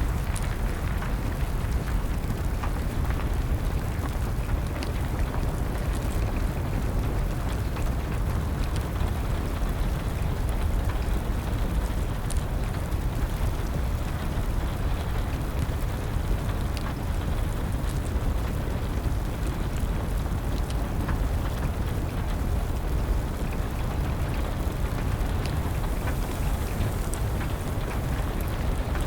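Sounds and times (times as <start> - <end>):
steady rain: 0.0 - 29.0
wood fire crackling: 0.0 - 29.0.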